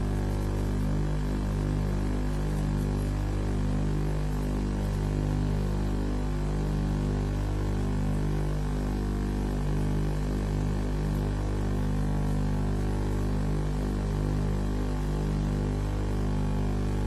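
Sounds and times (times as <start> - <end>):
electrical hum with buzzing: 0.0 - 17.0.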